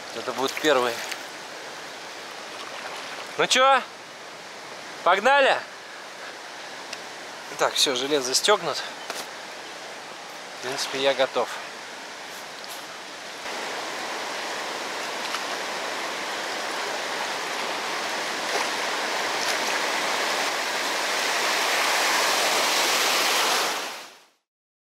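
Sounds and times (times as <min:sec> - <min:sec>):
waterfall rushing: 0:00.0 - 0:24.2.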